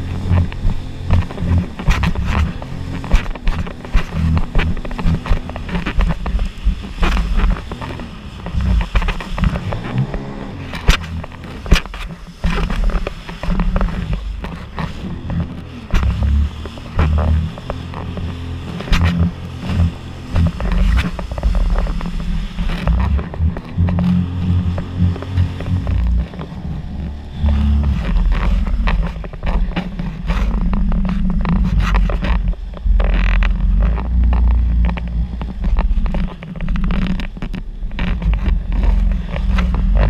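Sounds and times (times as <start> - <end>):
hull slapping on waves: 0.0 - 40.0
watercraft engine droning: 0.0 - 40.0.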